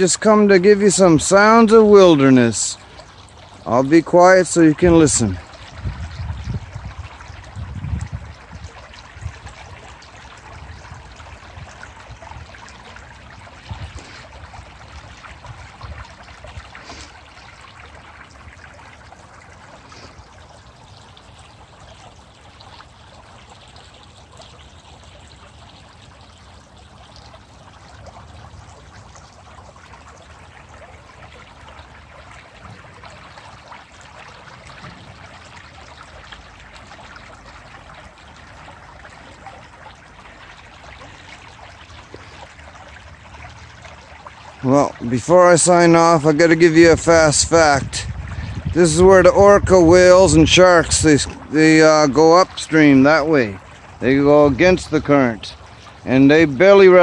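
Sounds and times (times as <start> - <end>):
stream water flowing over rocks: 0.0 - 57.0.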